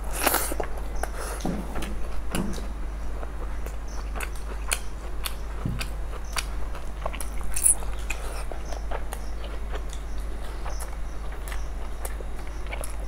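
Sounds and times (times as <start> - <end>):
chewing and lip-smacking: 0.1 - 13.0.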